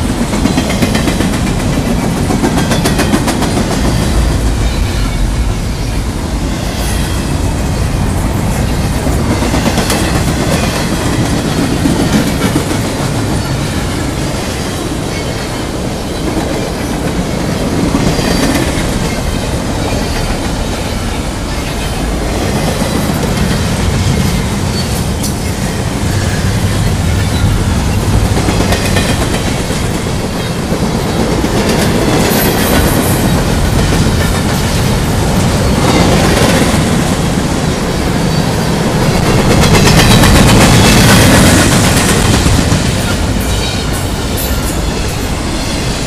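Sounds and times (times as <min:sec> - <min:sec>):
clickety-clack over rail joints: 0:00.0 - 0:06.0, 0:06.6 - 0:46.0
freight train wheels on rails: 0:00.0 - 0:46.0.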